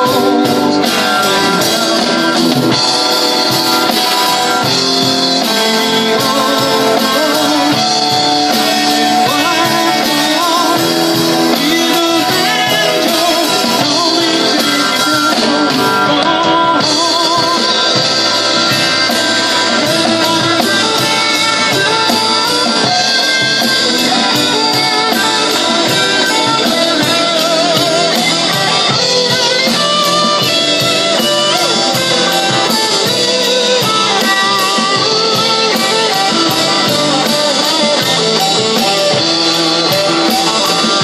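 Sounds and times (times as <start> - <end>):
man singing lead vocal: 0.0 - 3.2, 4.5 - 41.0
drum kit: 0.0 - 41.0
electric guitars: 0.0 - 41.0.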